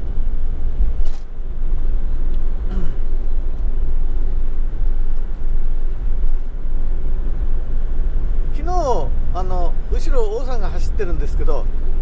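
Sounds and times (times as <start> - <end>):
vehicle driving on highway: 0.0 - 12.0.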